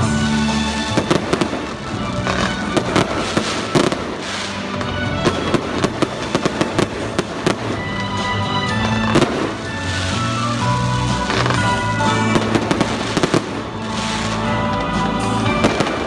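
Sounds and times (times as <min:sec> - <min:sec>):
fireworks bangs and crackling: 0:00.0 - 0:16.0
music playing: 0:00.0 - 0:16.0.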